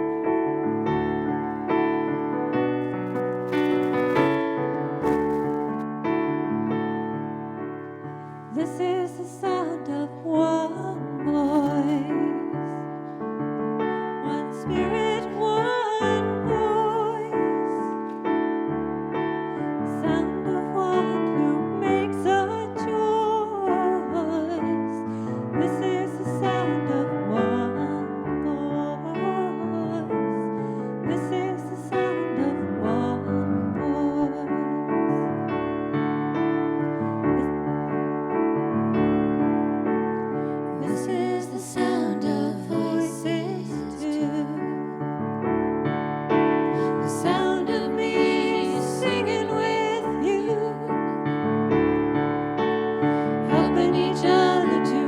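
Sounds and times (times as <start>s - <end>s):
slow gentle keyboard piano: 0.0s - 55.0s.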